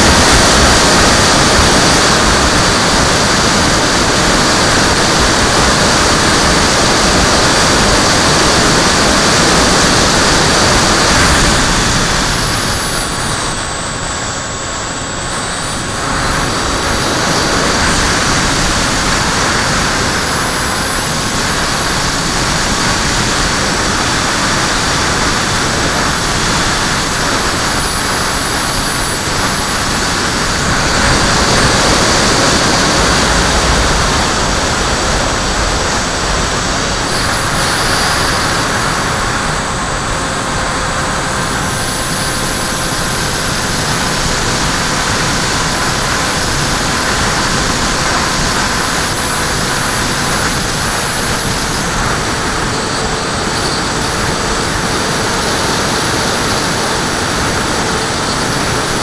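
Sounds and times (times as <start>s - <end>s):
electric motor whine: 0.0s - 59.0s
wind rushing over microphone: 0.0s - 59.0s.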